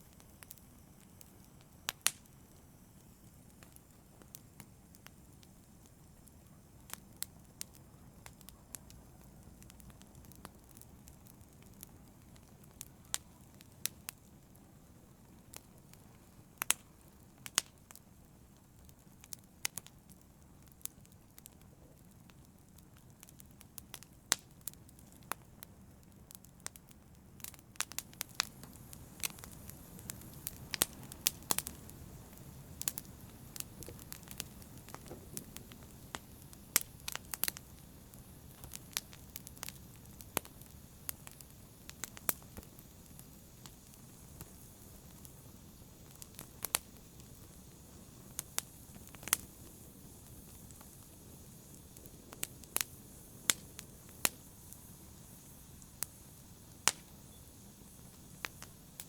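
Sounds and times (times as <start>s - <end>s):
fire pops and snaps: 0.0s - 14.7s, 15.4s - 59.0s
low rustle of flames: 0.0s - 59.0s.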